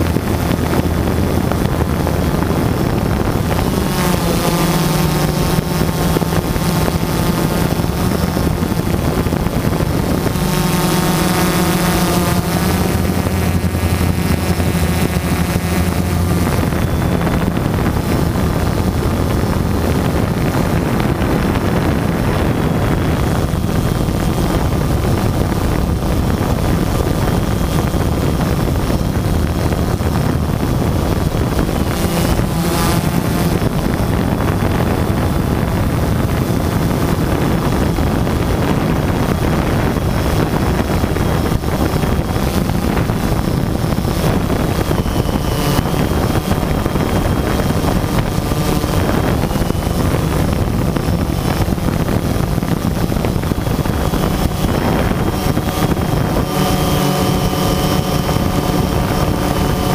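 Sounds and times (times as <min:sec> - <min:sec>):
drone propellers buzzing: 0:00.0 - 0:59.9
wind rushing over microphone: 0:00.0 - 0:59.9.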